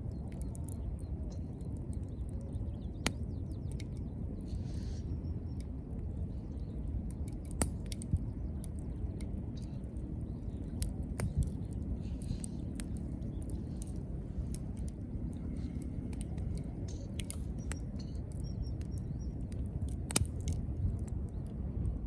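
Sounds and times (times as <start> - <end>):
wood fire crackling: 0.0 - 21.6.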